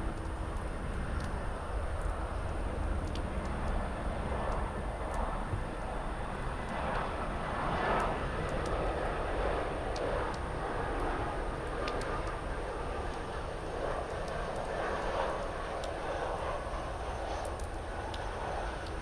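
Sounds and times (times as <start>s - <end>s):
jet engines drone: 0.0s - 19.0s.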